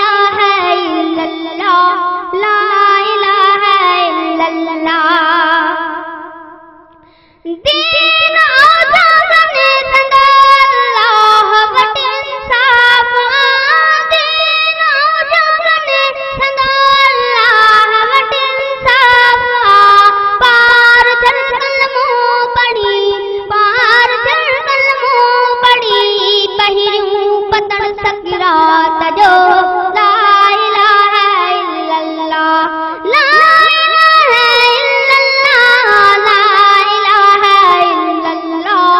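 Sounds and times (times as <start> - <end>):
boy singing devotional song: 0.0 - 38.9.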